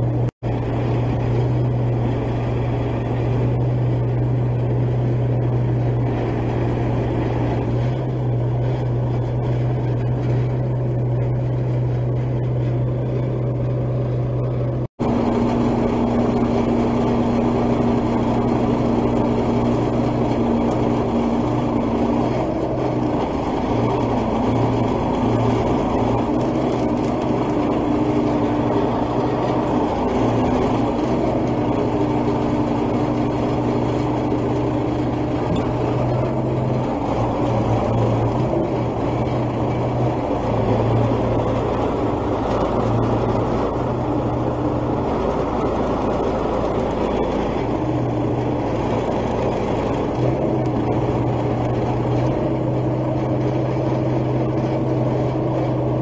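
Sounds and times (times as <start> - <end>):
diesel engine running: 0.0 - 56.0
higher hum: 0.0 - 56.0.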